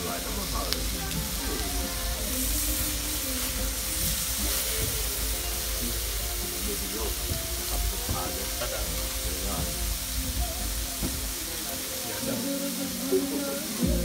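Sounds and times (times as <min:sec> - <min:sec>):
meat sizzling on a griddle: 0:00.0 - 0:14.0.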